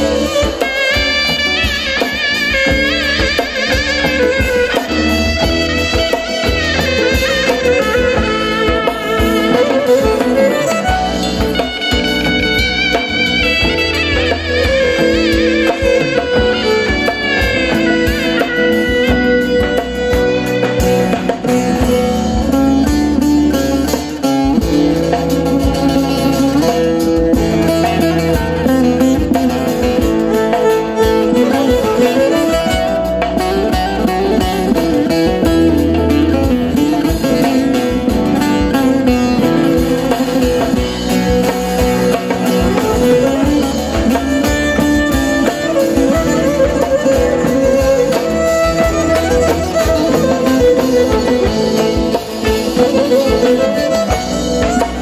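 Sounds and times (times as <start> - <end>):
drum kit beat: 0.0 - 55.0
plucked string instruments: 0.0 - 55.0
wooden folk pipe: 0.0 - 55.0.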